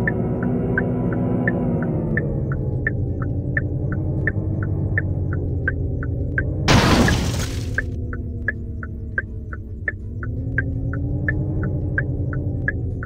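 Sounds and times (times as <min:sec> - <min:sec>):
light ticking pulse: 0:00.0 - 0:06.7, 0:07.8 - 0:13.0.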